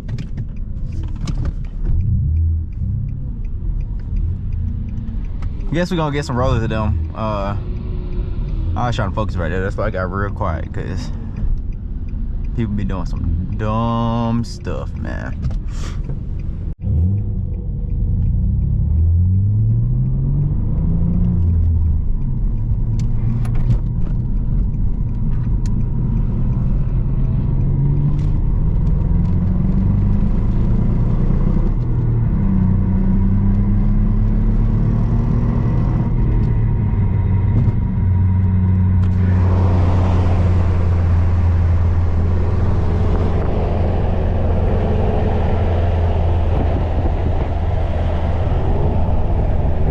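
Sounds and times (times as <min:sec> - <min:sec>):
car engine accelerating through gears: 0:00.0 - 0:49.9
wind and road noise: 0:00.0 - 0:49.9.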